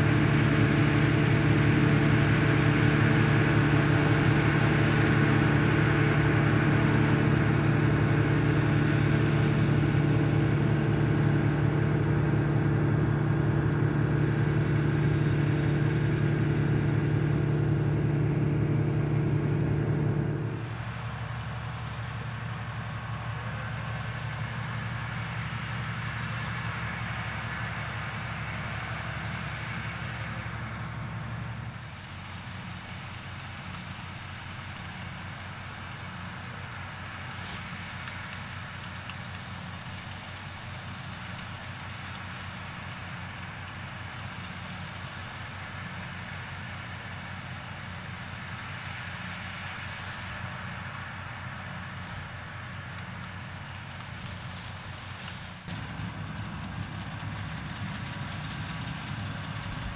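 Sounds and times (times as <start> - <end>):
combine harvester running: 0.0 - 59.9
tractor working: 0.0 - 59.9.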